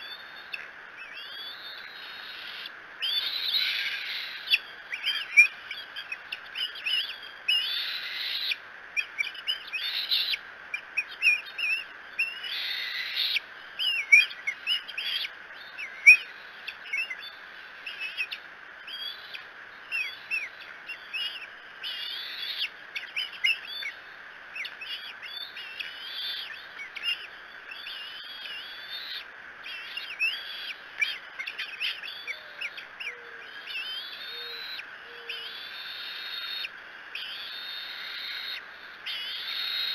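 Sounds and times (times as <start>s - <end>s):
eaglets high-pitched chirping calls: 0.0s - 39.9s.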